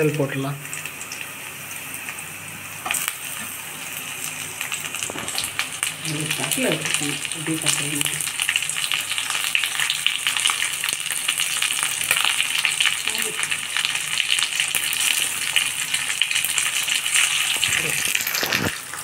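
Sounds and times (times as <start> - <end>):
liver frying in hot oil: 0.0 - 19.0.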